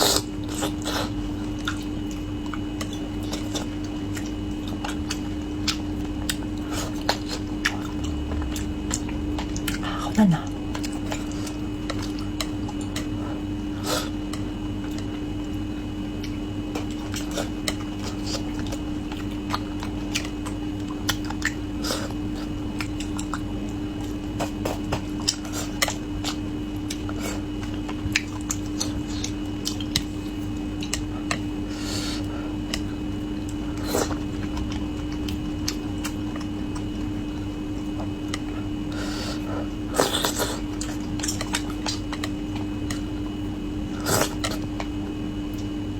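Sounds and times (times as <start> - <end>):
chewing: 0.0 - 15.6, 16.2 - 31.5, 39.4 - 45.8
background hum: 0.0 - 45.9.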